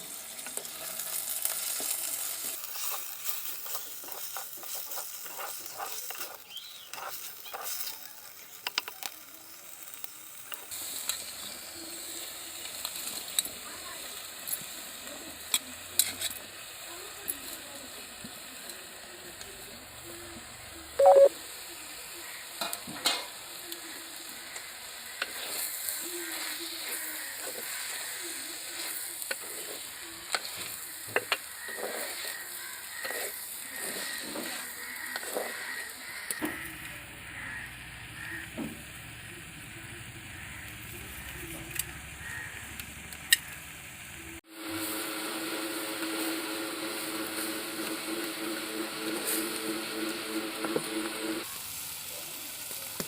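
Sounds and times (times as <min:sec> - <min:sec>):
curry sizzling in a clay pot: 0:00.0 - 0:53.0.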